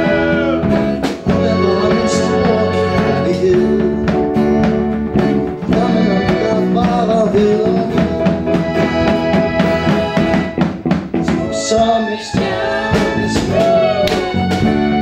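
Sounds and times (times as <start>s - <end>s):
school band playing pop song: 0.0s - 15.0s.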